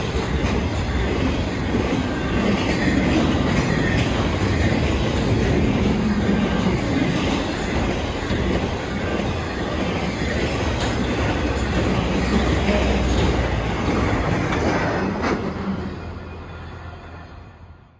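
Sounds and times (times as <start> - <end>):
train wheels rumbling on rails: 0.0 - 17.2.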